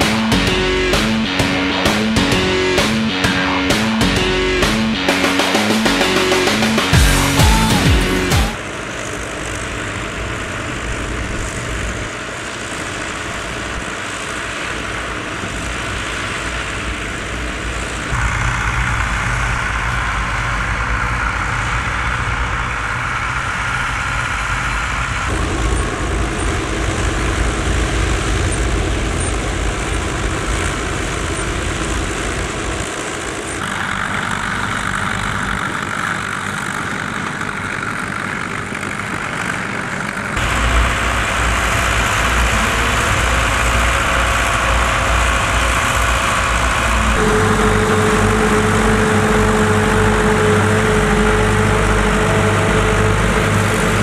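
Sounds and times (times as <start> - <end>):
tractor engine drone: 0.0 - 54.0.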